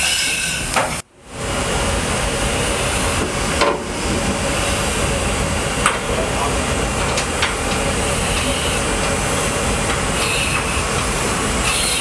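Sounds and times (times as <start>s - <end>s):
ventilation and machinery rushing: 0.7s - 12.0s.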